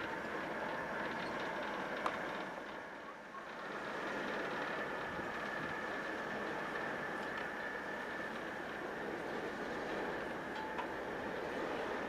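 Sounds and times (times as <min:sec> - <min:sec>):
diesel locomotive engine and wheels: 0:00.0 - 0:12.0.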